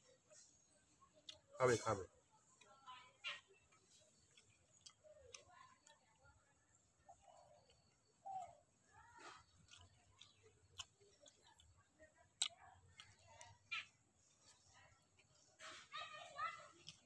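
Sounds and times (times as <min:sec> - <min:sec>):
faint chirps: 0:00.0 - 0:17.0.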